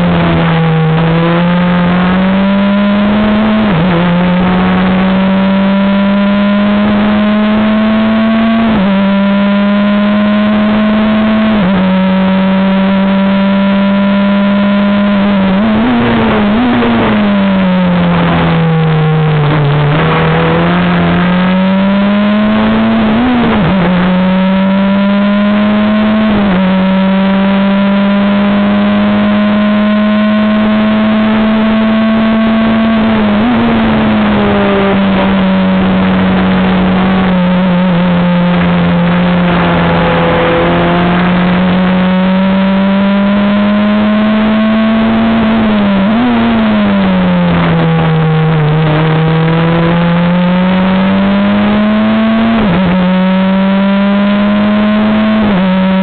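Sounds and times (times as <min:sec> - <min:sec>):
racing car engine: 0:00.0 - 0:56.0.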